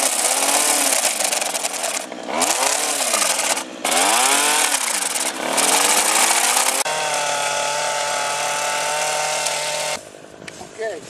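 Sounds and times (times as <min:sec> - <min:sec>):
brushcutter cutting brush: 0:00.0 - 0:10.0.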